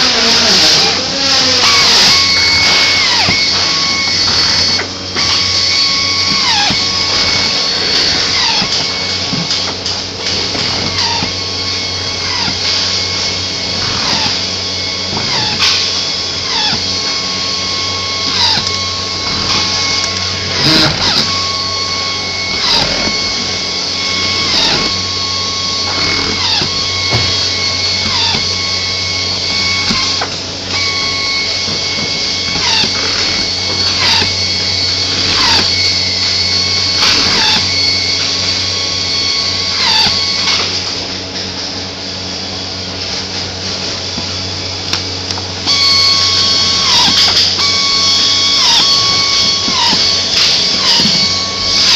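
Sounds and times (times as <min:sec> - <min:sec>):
pneumatic screw gun driving screws: 0:00.0 - 0:40.8, 0:45.6 - 0:51.9.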